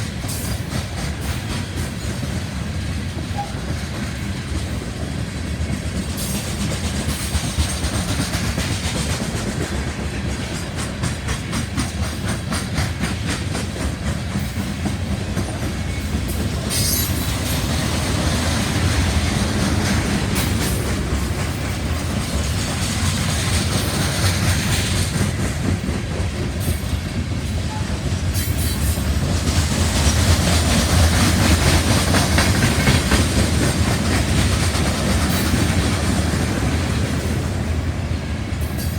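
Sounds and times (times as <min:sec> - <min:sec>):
train cars rumbling past: 0:00.0 - 0:38.9
wheels clacking over rail joints: 0:00.0 - 0:38.9.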